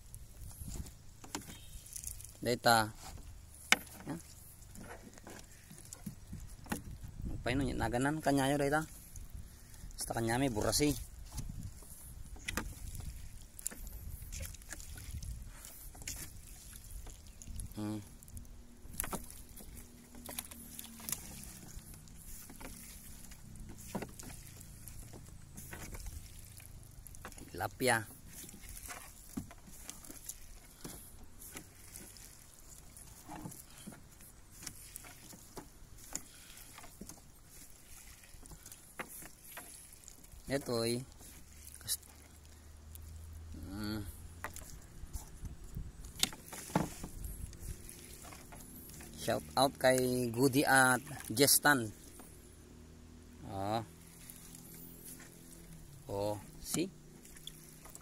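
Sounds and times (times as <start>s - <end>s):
water dripping and splashing: 0.0s - 58.0s
wet fishing net hauled in: 0.0s - 58.0s.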